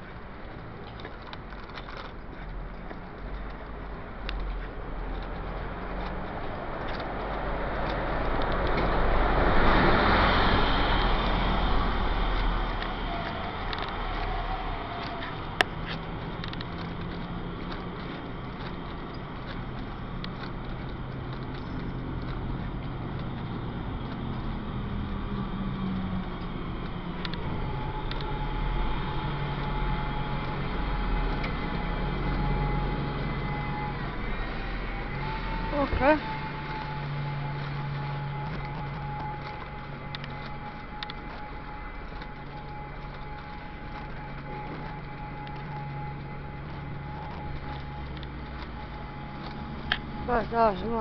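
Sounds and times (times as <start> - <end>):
vehicle driving past: 4.4 - 51.0.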